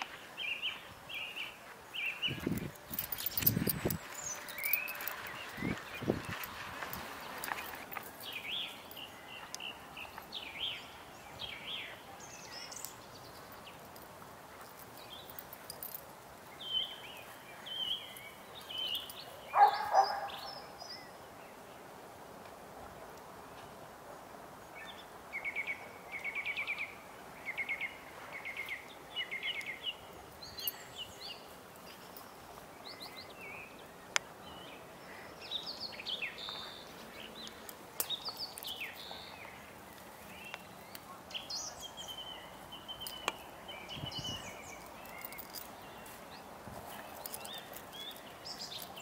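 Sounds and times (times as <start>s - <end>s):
songbirds singing: 0.0s - 22.0s, 24.6s - 49.0s.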